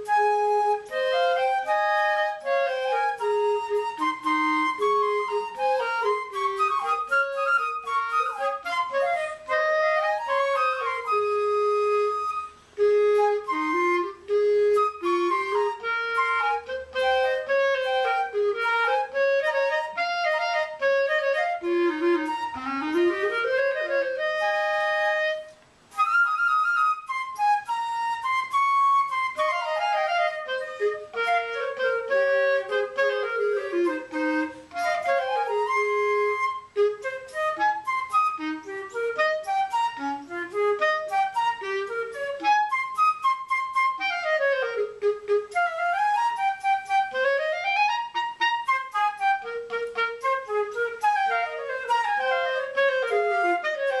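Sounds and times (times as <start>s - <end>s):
flute and clarinet duet: 0.0s - 54.0s.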